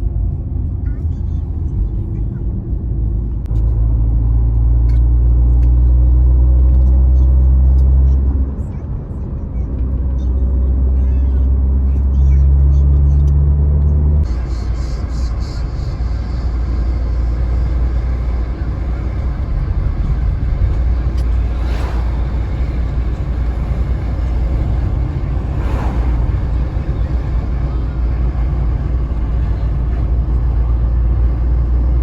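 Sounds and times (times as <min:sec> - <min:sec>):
vehicle rumbling in motion: 0:00.0 - 0:32.0.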